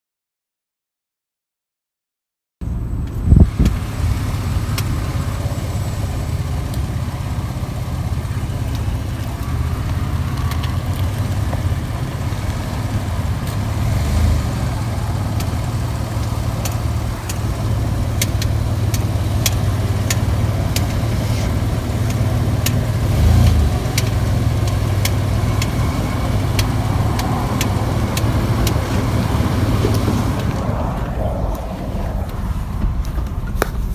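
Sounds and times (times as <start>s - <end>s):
car engine and road rumble: 2.6s - 33.9s
wheel crackling clicks: 3.1s - 33.9s.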